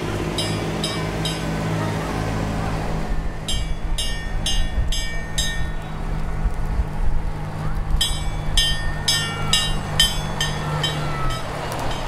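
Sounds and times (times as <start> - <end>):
large vehicle engine running: 0.0 - 12.0.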